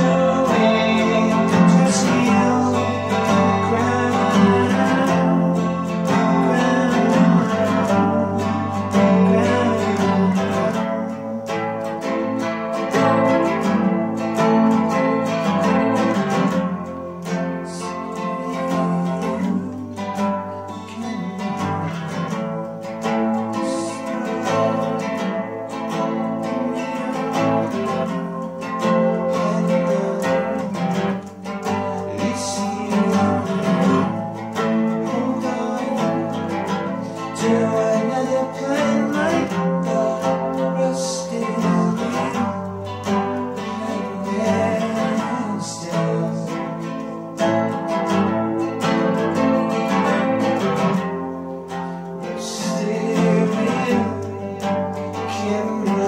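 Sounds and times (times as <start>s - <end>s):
acoustic guitar: 0.0s - 56.0s
man singing: 0.0s - 56.0s.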